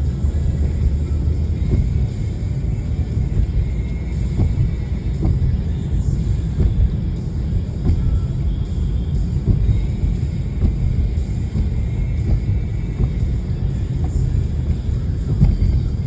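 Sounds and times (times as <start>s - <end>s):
faint bumps: 0.0s - 2.3s, 3.0s - 16.0s
car engine and tyre rumble: 0.0s - 16.0s.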